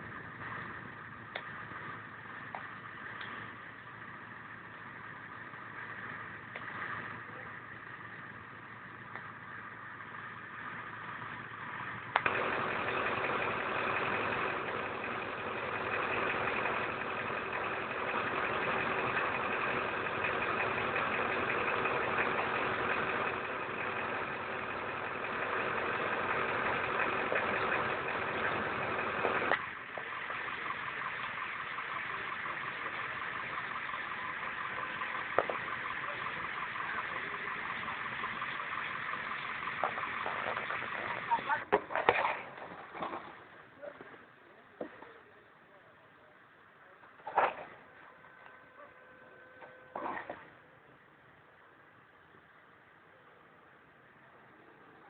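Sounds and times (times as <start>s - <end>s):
vehicle engine running: 0.0s - 52.4s
traffic noise: 0.0s - 55.0s.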